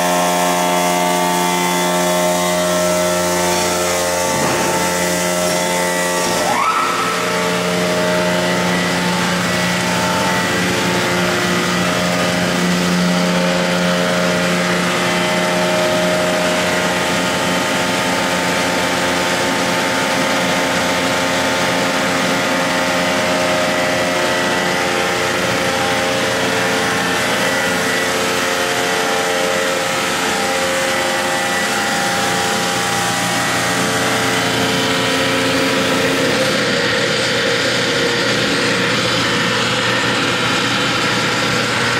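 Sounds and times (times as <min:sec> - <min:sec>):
blender machinery humming: 0:00.0 - 0:41.9.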